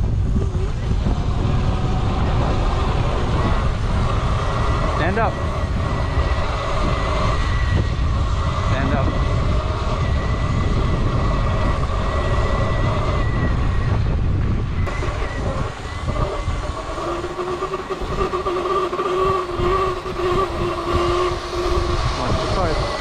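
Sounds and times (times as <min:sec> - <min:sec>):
electric dirt bike motor whine: 0:00.0 - 0:23.0
wind rumble on microphone: 0:00.0 - 0:23.0.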